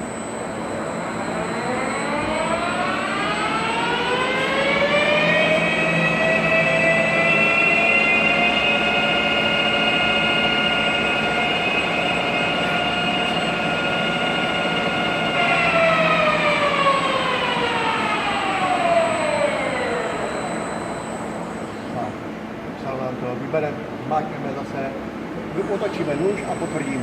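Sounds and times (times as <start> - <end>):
lathe spindle whine: 0.0 - 22.5, 25.5 - 27.0.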